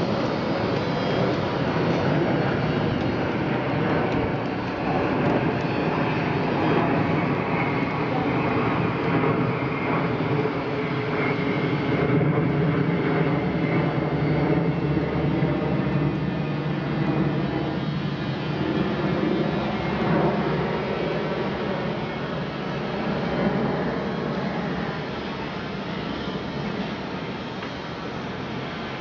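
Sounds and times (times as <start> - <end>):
helicopter turbine drone and whine: 0.0 - 29.0.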